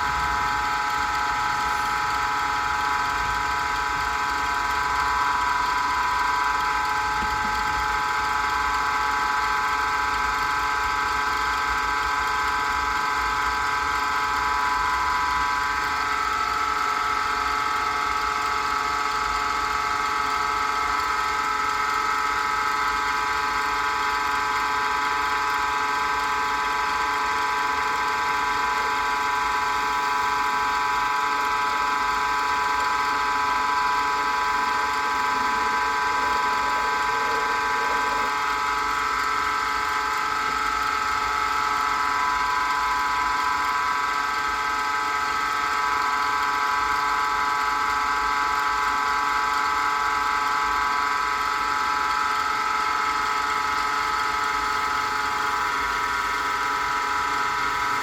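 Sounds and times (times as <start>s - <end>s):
wood lathe motor whine: 0.0s - 58.0s.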